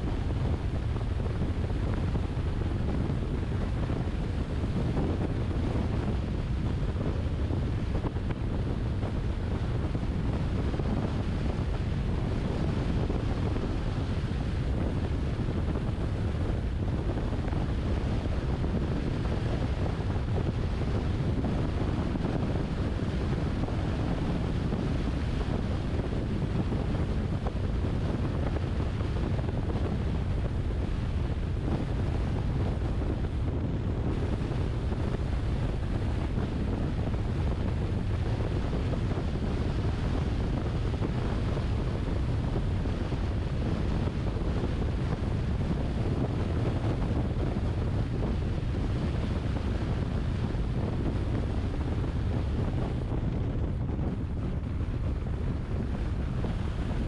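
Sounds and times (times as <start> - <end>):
car wind and tyre noise: 0.0 - 57.0.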